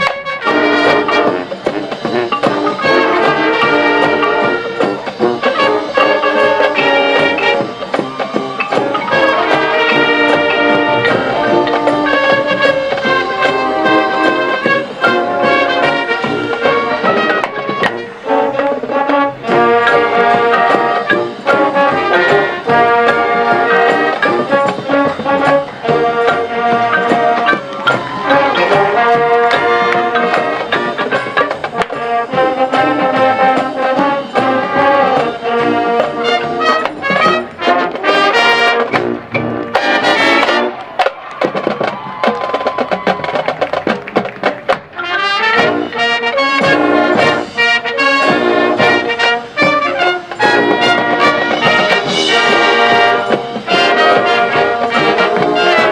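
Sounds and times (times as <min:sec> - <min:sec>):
marching band brass chords: 0:00.0 - 0:55.9
percussion strokes: 0:00.0 - 0:55.9.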